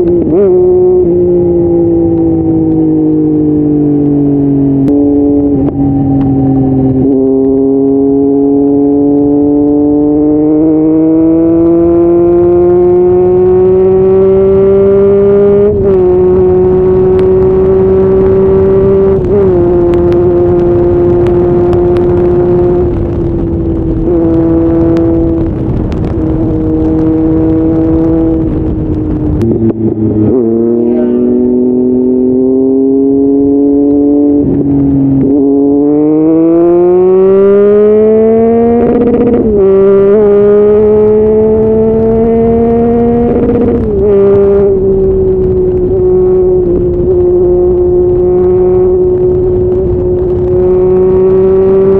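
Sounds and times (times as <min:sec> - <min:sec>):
motorcycle engine at high revs: 0:00.0 - 0:51.9.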